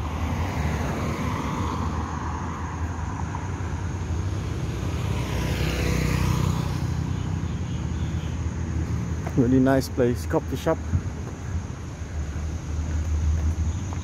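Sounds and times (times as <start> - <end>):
car passing: 0.0 - 14.0
traffic rumble: 0.0 - 14.0.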